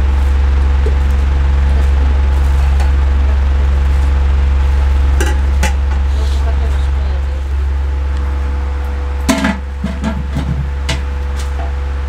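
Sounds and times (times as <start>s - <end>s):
loud steady low hum: 0.0s - 12.0s.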